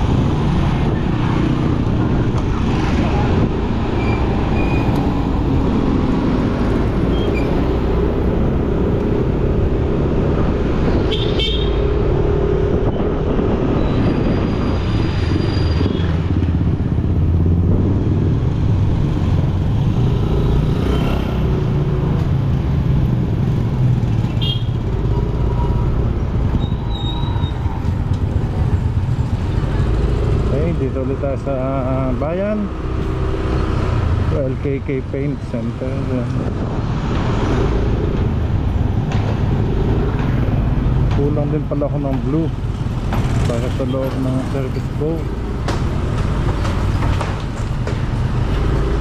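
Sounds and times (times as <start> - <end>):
road noise: 0.0 - 49.0.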